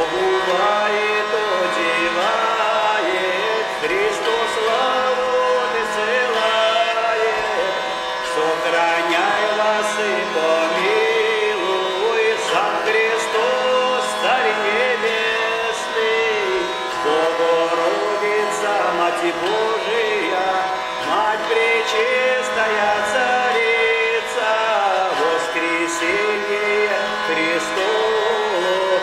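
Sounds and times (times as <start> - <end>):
hurdy-gurdy drone: 0.0 - 29.0
man singing: 0.0 - 29.0.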